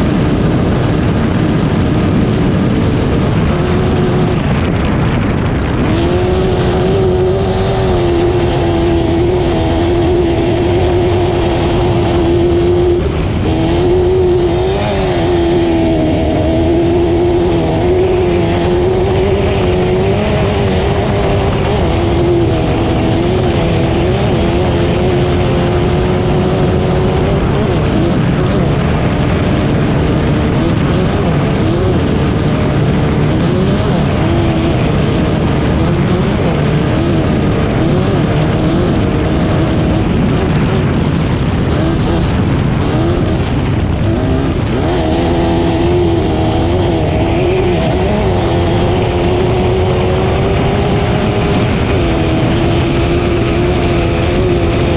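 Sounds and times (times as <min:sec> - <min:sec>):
racing engine at high revs: 0:00.0 - 0:54.9.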